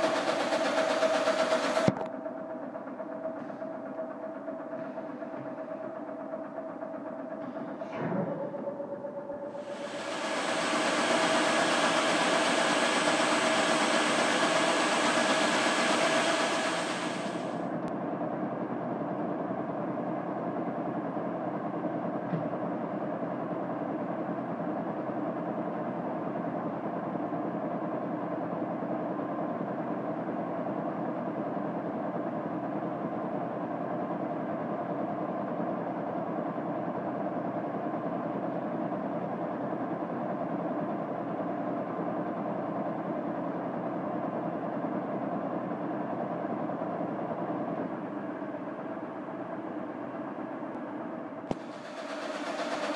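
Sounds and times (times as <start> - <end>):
vacuum pumps running: 0.0 - 52.9.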